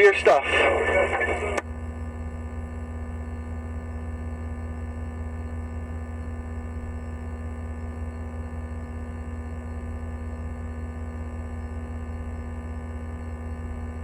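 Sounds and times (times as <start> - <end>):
loudspeaker electrical hum: 0.0 - 14.0.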